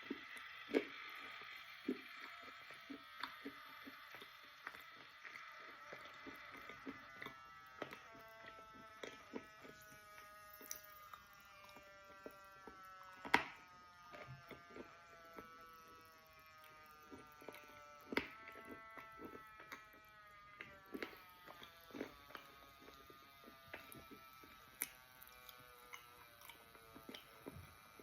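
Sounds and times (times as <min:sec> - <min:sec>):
wet chewing crunches: 0:00.0 - 0:28.0.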